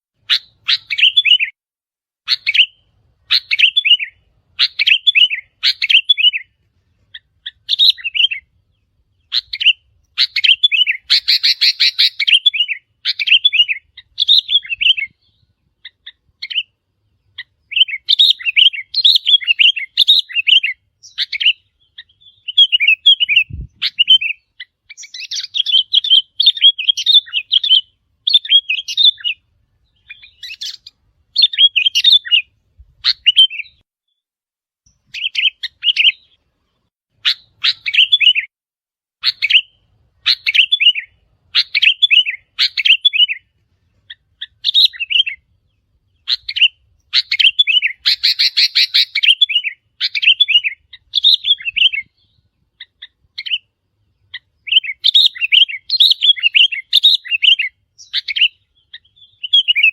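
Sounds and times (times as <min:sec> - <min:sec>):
bulbul singing: 0:00.2 - 0:01.6, 0:02.3 - 0:34.2, 0:34.8 - 0:38.5, 0:39.2 - 0:59.9.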